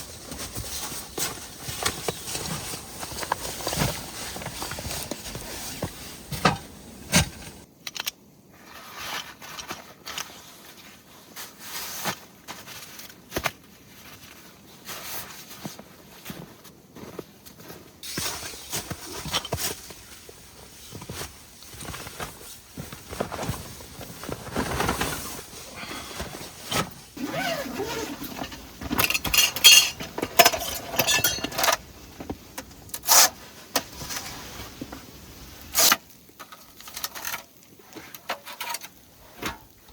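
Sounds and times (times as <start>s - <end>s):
camp gear clinking and rustling: 0.0s - 39.9s.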